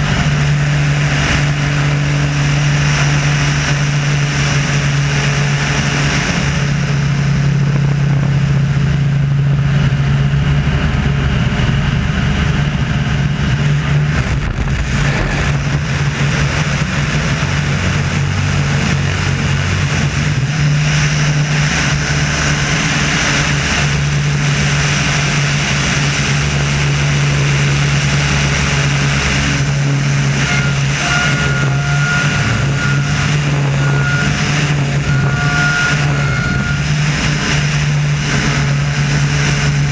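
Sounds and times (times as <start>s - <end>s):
propeller plane engine running: 0.0s - 39.9s
wind rushing over microphone: 0.0s - 39.9s.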